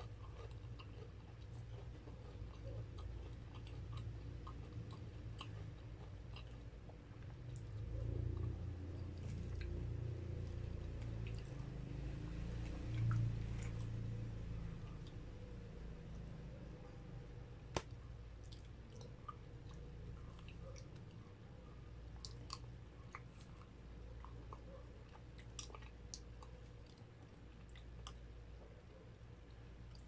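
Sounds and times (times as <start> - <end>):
chewing and mouth sounds: 0.0 - 16.8, 17.7 - 30.0
low steady hum: 0.0 - 30.0.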